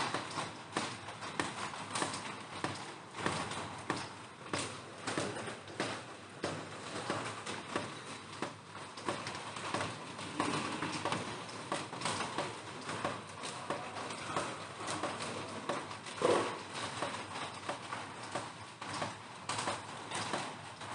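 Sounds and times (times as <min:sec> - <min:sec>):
raindrops tapping plastic roof: 0:00.0 - 0:20.9.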